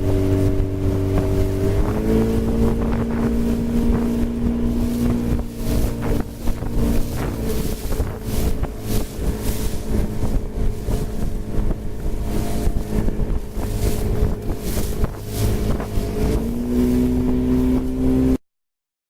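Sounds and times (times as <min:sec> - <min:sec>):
motorboat engine running: 0:00.0 - 0:18.4
wind buffeting microphone: 0:00.0 - 0:18.4.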